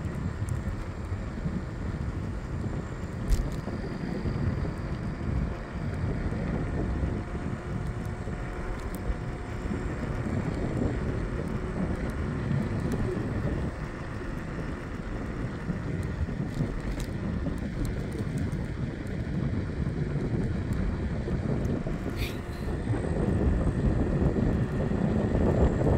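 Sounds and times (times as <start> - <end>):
wind rumble on microphone: 0.0 - 25.9.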